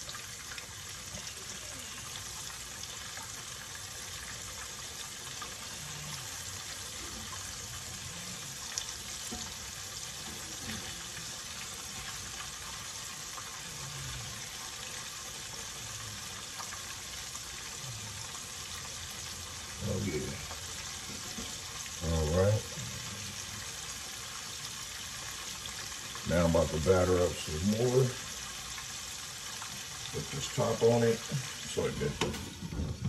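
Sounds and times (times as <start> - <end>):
shrimp sizzling in hot oil: 0.0 - 33.0.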